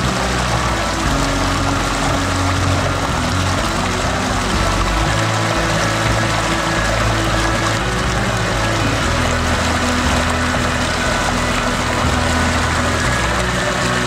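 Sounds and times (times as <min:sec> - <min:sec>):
background music of held low notes: 0:00.0 - 0:14.0
stream water running: 0:00.0 - 0:14.0.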